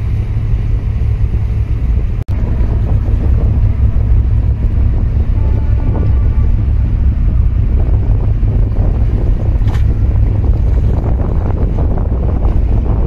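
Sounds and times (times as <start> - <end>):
choppy water washing: 0.0 - 13.0
wind buffeting microphone: 0.0 - 13.0.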